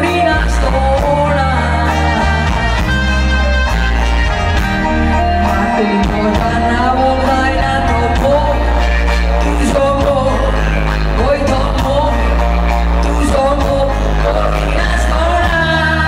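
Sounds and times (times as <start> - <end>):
woman singing into a microphone: 0.0 - 3.0, 5.3 - 16.0
drums: 0.0 - 16.0
electric guitar: 0.0 - 16.0.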